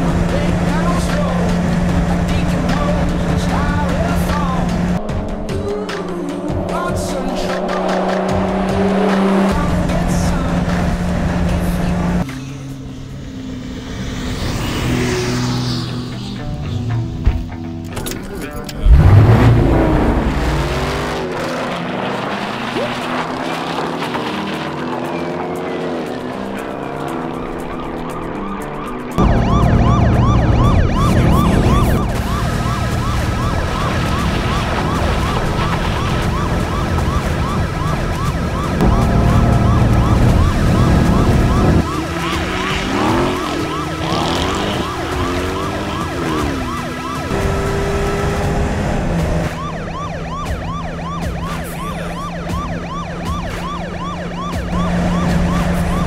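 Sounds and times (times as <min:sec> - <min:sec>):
police siren wailing: 0:00.0 - 0:17.0, 0:18.9 - 0:56.0
car engines revving: 0:00.0 - 0:56.0.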